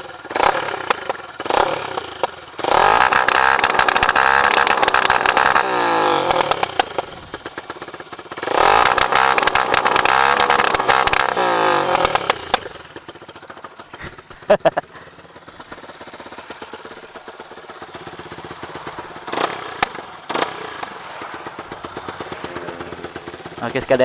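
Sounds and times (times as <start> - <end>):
exhaust crackling pops: 0.0 - 24.0
motorcycle engine revving: 0.0 - 24.0.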